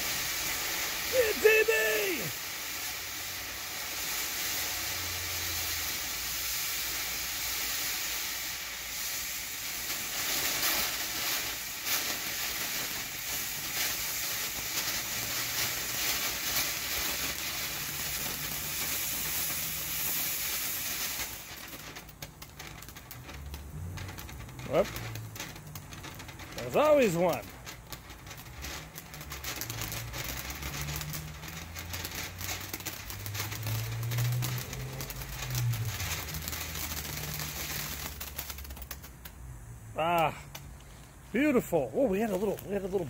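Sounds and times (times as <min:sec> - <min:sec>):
crackling pops: 0:00.0 - 0:43.0
fireworks fountains spraying hiss: 0:00.0 - 0:43.0.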